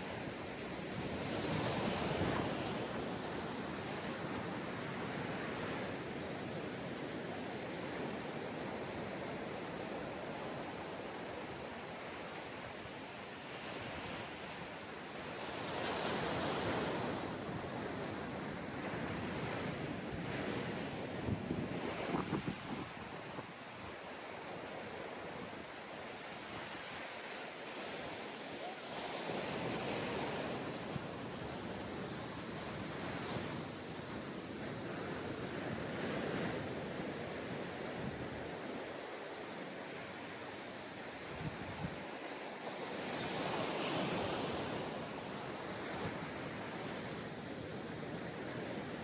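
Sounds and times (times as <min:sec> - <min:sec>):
ocean waves on sandy beach: 0:00.0 - 0:49.0.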